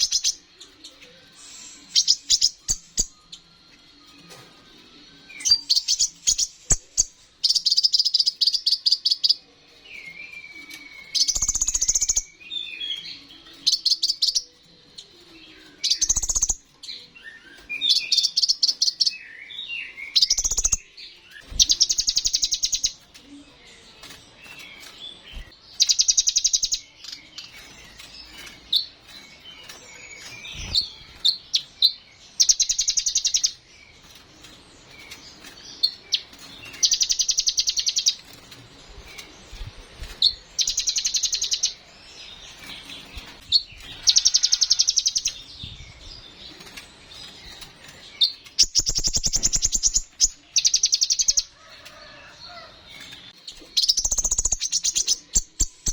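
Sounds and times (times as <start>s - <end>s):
bird chirps and twitters: 0.0s - 55.9s.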